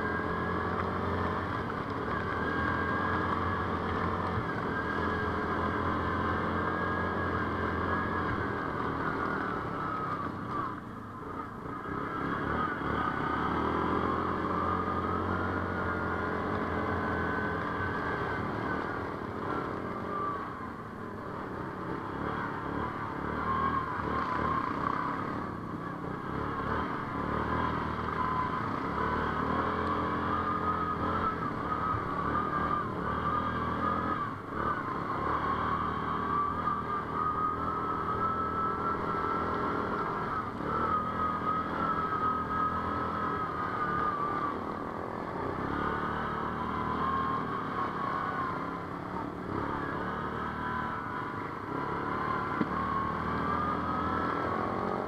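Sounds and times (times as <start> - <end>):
atv engine under load: 0.0 - 55.0.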